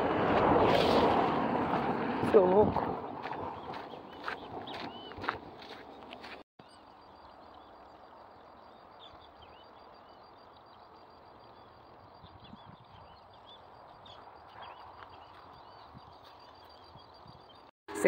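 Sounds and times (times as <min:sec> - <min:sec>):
small birds chirping: 0:02.4 - 0:17.7.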